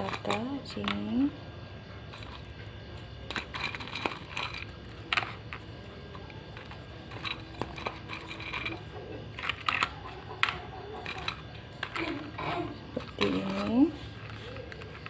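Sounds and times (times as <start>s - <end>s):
food arranged in lunchbox: 0.0s - 15.0s.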